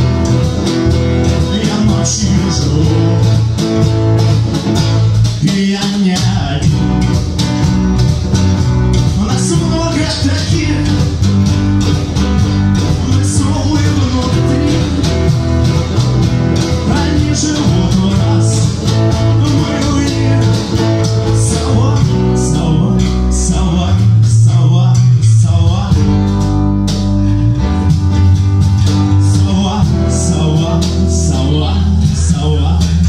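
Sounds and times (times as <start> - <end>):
bass guitar: 0.0 - 33.0
drums: 0.0 - 33.0
guitar: 0.0 - 33.0.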